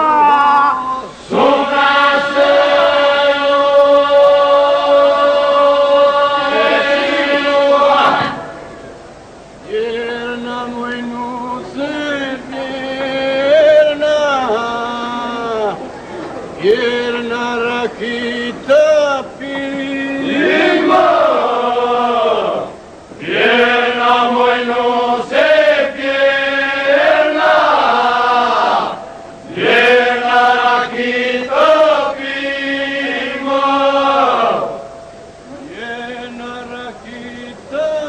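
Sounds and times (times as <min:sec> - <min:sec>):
steady vocal drone: 0:00.0 - 0:38.0
male group singing polyphonic folk: 0:01.1 - 0:08.6, 0:09.6 - 0:15.9, 0:16.5 - 0:34.9, 0:35.6 - 0:38.0.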